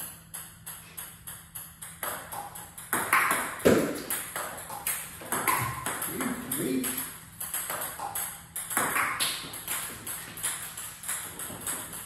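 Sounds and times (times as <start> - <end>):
table tennis ball clicking: 0.2 - 12.0.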